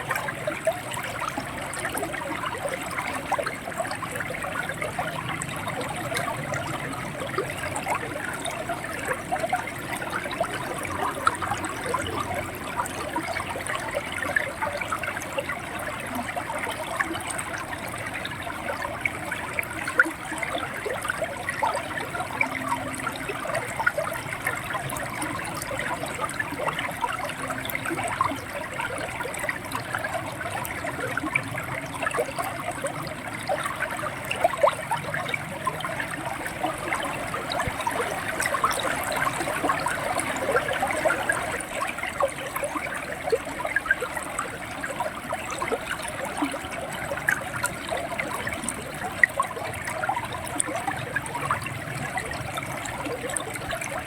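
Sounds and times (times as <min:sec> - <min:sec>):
river water running and gurgling: 0:00.0 - 0:54.0.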